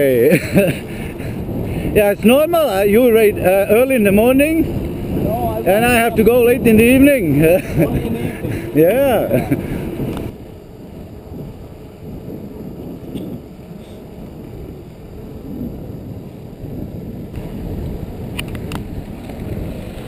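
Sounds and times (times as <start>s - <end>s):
bike tyres rolling on path: 0.0s - 20.0s
wind rumble on microphone: 0.0s - 20.0s.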